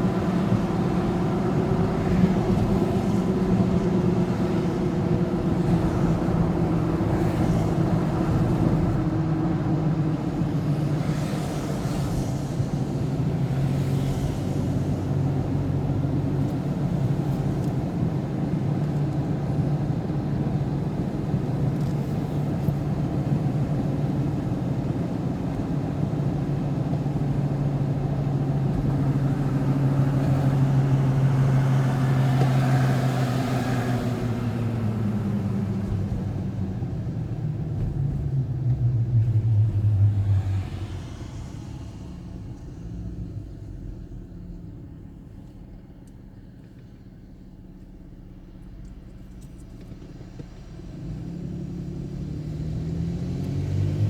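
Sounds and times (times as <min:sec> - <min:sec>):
vehicle engine drone: 0:00.0 - 0:54.0.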